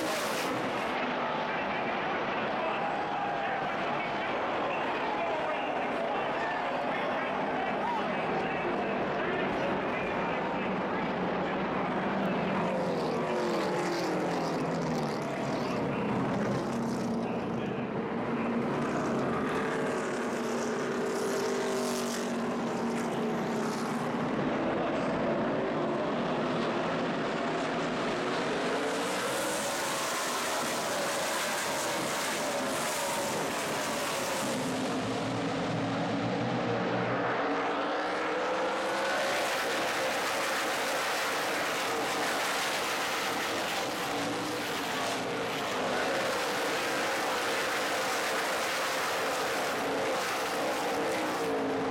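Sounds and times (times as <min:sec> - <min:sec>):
race car engines passing by: 0:00.0 - 0:51.9.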